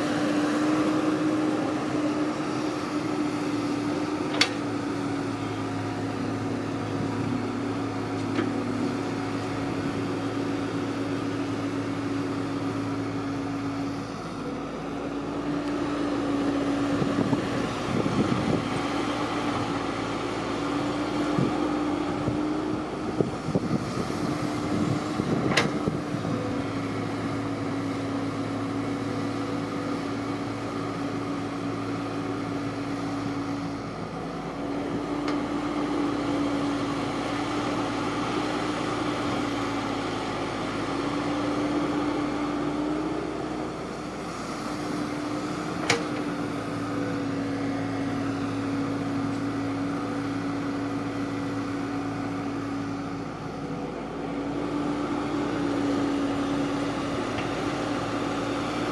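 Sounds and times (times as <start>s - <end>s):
harvester engine droning: 0.0s - 58.9s.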